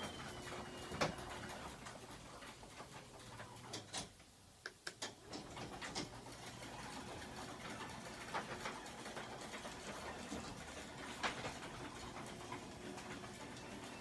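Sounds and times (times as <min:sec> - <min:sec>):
garage door motor hum: 0:00.0 - 0:04.2, 0:05.1 - 0:14.0.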